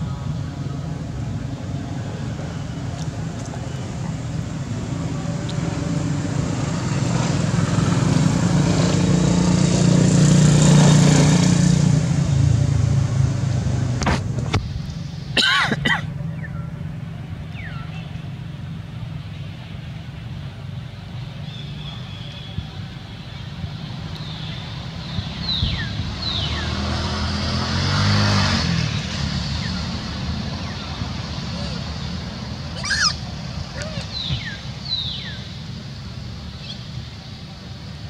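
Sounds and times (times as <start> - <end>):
vehicle engine hum passing: 0.0 - 15.4, 16.0 - 38.0.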